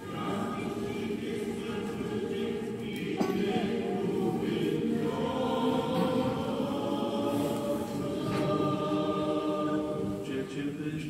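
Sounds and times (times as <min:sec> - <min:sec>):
church choir chanting: 0:00.0 - 0:11.0.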